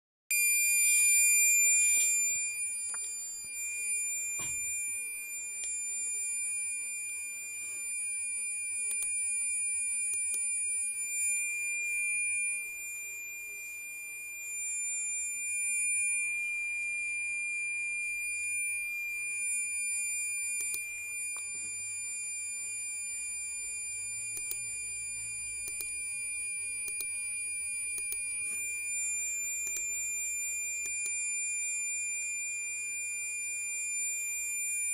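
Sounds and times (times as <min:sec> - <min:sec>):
high-pitched laptop whistle: 0:00.3 - 0:34.9.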